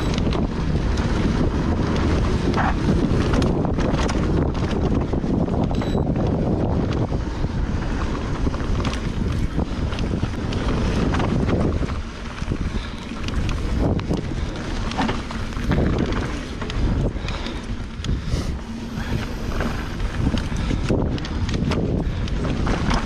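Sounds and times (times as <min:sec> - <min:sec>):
bike clicks and rattles: 0:00.0 - 0:23.0
bike tyres rumbling on trail: 0:00.0 - 0:23.0
wind buffeting microphone: 0:00.0 - 0:23.0.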